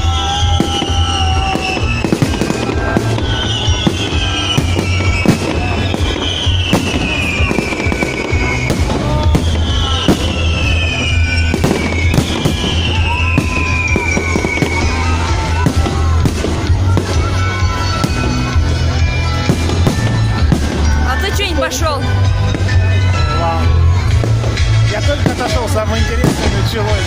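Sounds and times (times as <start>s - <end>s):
fireworks bangs and crackles: 0.0s - 27.0s
fireworks whistles falling: 0.0s - 27.0s.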